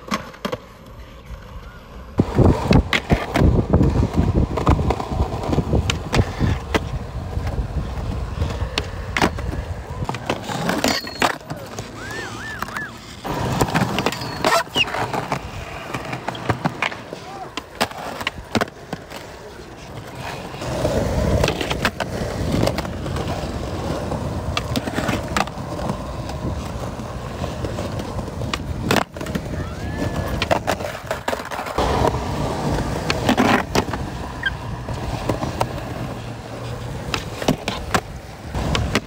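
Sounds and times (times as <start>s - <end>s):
skateboard clacking on ground: 0.0s - 39.0s
skateboard wheels rolling on concrete: 0.0s - 39.0s.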